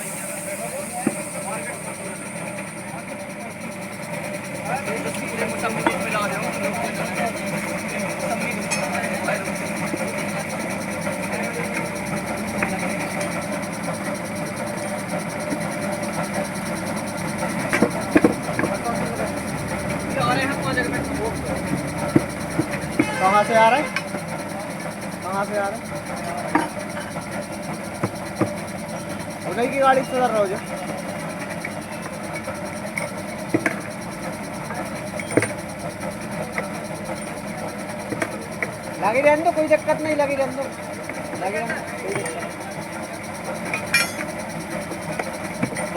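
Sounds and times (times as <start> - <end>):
mechanical running noise: 0.0 - 45.9.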